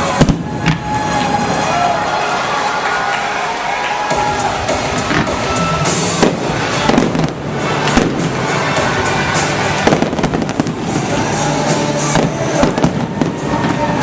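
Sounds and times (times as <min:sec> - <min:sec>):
fireworks bangs and crackles: 0:00.0 - 0:01.9, 0:04.0 - 0:14.0
music playing: 0:00.0 - 0:14.0.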